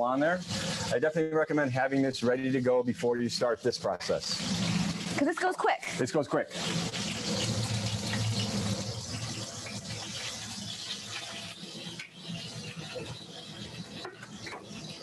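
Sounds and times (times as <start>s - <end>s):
meat sizzling in hot oil: 0.0s - 1.3s, 1.9s - 15.0s.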